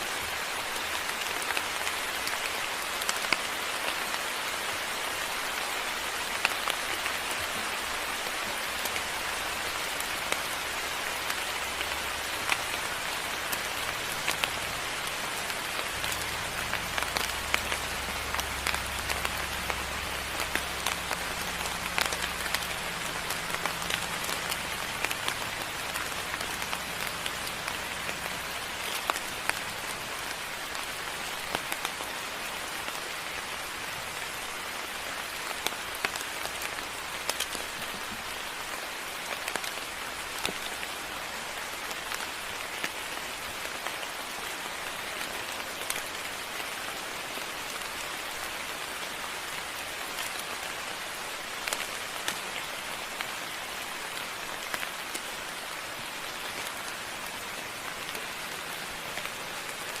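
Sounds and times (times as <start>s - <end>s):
rain falling: 0.0s - 60.0s.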